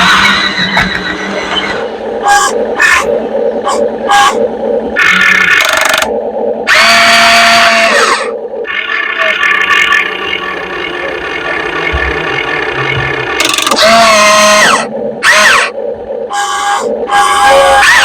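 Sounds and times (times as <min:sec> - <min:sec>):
electric motor and pump whine: 0:00.0 - 0:18.0.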